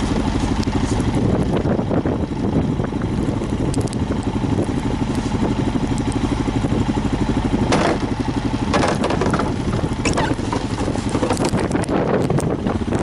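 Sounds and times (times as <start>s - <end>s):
engine running steadily: 0.0s - 13.0s
rushing crunching bursts: 0.0s - 13.0s.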